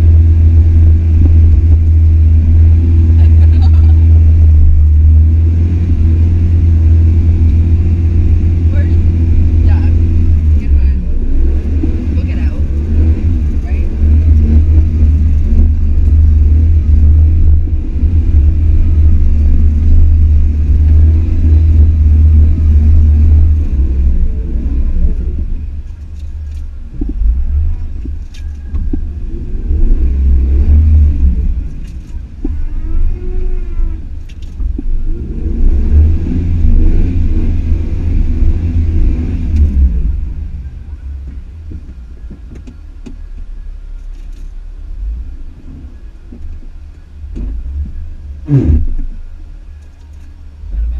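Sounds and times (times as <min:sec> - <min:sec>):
off-road vehicle engine revving: 0:00.0 - 0:50.9.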